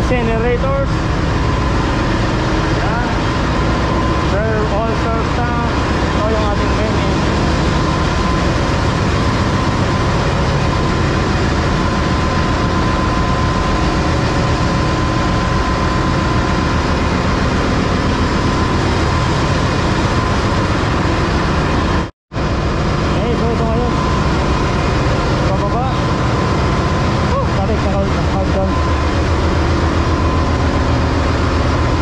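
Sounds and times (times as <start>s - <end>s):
constant mechanical whine: 0.0s - 32.0s
engine-room machinery din: 0.0s - 32.0s.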